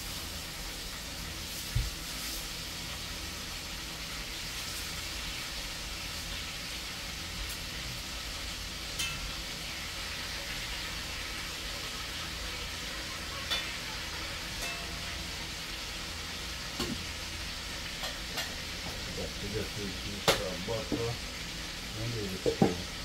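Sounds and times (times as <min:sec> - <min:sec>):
chicken sizzling in a pot: 0:00.0 - 0:23.0.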